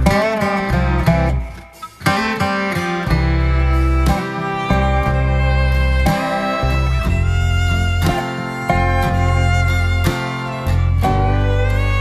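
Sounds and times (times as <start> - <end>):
fiddle: 0.0 - 12.0
guitar: 0.0 - 12.0
heavy bass notes: 0.0 - 12.0.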